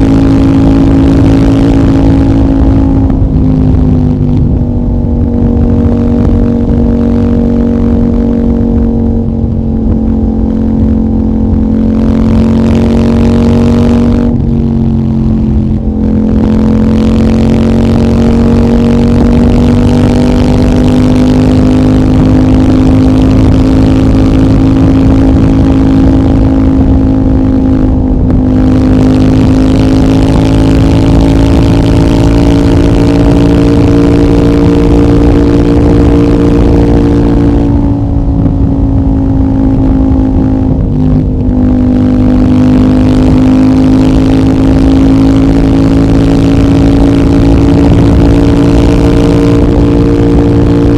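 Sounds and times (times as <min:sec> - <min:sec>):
loud motorcycle engine under throttle: 0:00.0 - 0:50.9.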